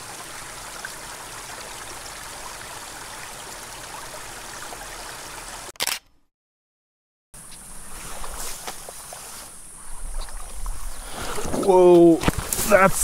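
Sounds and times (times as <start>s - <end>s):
stream flowing: 0.0s - 5.7s, 7.4s - 13.0s.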